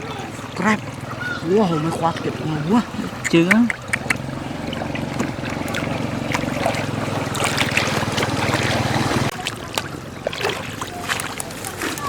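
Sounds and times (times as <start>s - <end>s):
water: 0.0s - 12.0s.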